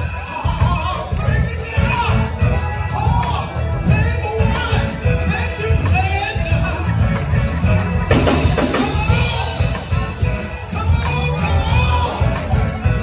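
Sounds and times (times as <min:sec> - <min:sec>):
bass: 0:00.0 - 0:13.0
drum kit beat: 0:00.0 - 0:13.0
live band music: 0:00.0 - 0:13.0.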